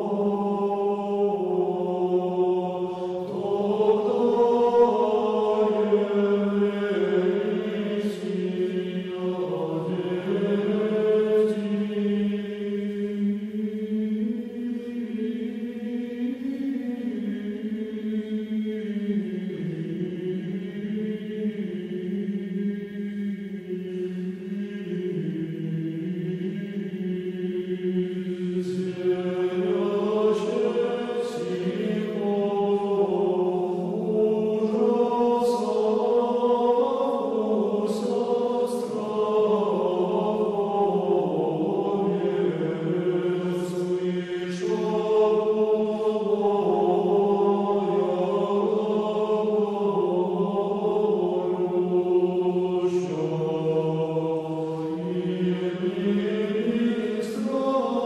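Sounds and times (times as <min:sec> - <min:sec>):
choir chanting: 0:00.0 - 0:58.0.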